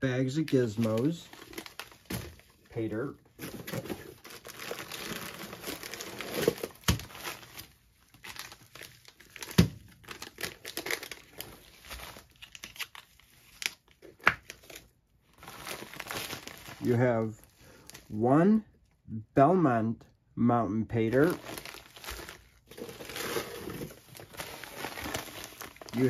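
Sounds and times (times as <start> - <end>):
plastic bags crinkling: 0.4 - 18.1, 21.1 - 26.0.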